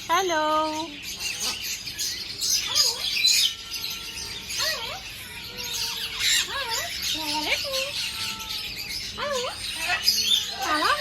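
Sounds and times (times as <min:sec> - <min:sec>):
caged birds chirping: 0:00.0 - 0:11.0
wavering whistled bird calls: 0:00.8 - 0:11.0.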